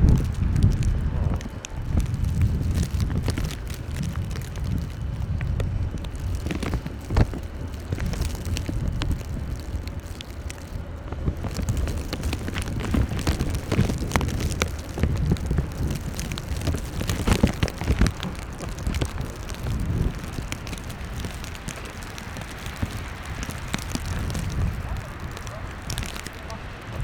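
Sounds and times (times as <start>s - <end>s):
irregular ticks and clicks: 0.0s - 27.0s
wind buffeting microphone: 0.0s - 27.0s.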